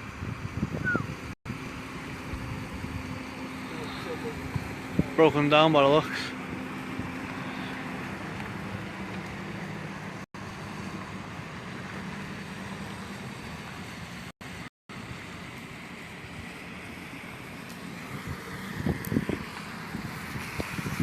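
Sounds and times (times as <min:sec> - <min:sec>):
road and engine noise in car: 0:00.0 - 0:21.0.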